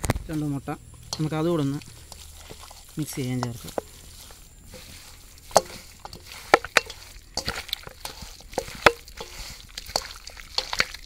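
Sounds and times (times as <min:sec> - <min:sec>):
hand squishing marinated chicken: 0:00.0 - 0:11.0.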